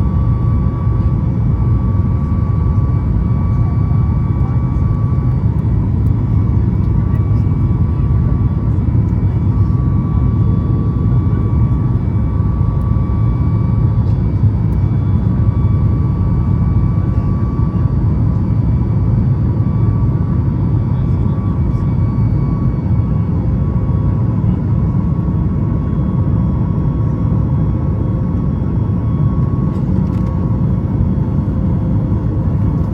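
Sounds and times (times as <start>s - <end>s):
jet cabin drone: 0.0s - 32.9s
thin steady engine whine: 0.0s - 32.9s.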